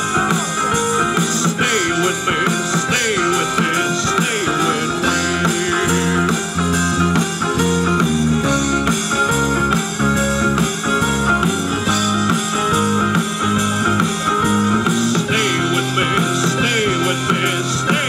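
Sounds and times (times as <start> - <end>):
bass line: 0.0 - 18.0
electric guitar: 0.0 - 18.0
live rock band playing: 0.0 - 18.0.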